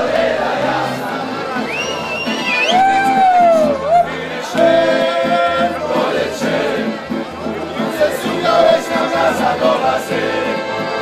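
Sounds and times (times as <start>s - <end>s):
accordion and guitar music: 0.0s - 11.0s.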